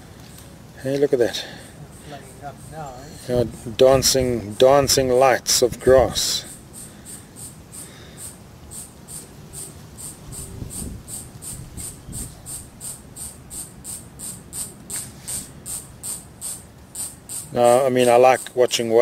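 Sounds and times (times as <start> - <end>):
insect chirping: 0.0 - 19.0.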